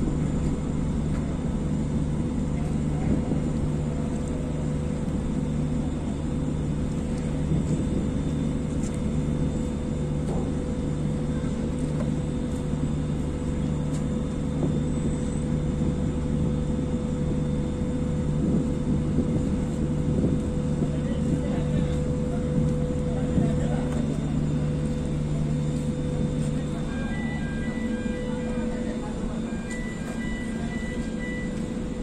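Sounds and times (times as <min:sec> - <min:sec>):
heavy machinery droning: 0:00.0 - 0:32.0.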